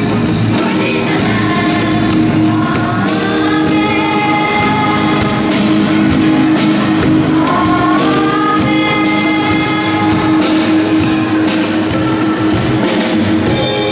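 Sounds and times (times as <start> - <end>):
choir singing: 0.0 - 12.6
live band music: 0.0 - 13.9.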